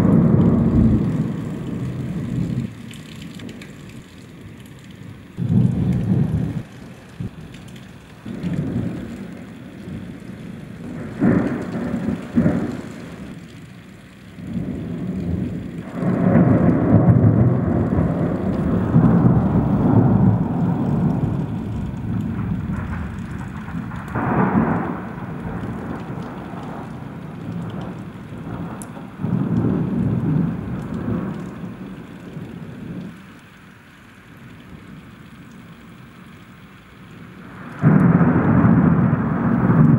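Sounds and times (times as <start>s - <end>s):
thunder cracks and rumbles: 0.0s - 3.7s, 5.4s - 13.5s, 14.4s - 33.2s, 37.4s - 39.9s
steady rain: 0.0s - 39.9s.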